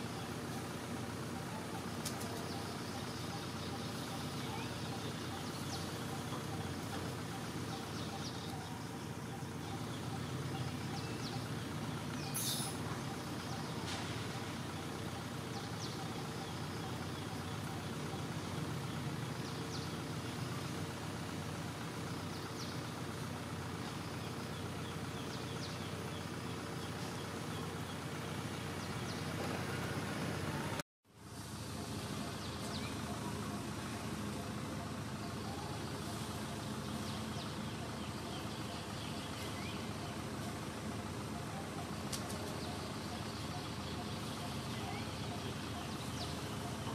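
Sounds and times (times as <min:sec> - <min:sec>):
low outdoor rumble: 0:00.0 - 0:46.9.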